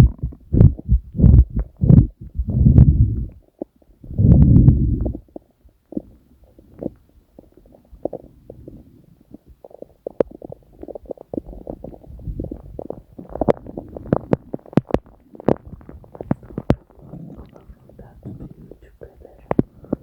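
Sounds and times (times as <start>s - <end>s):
stomach gurgling and popping: 0.0s - 20.0s.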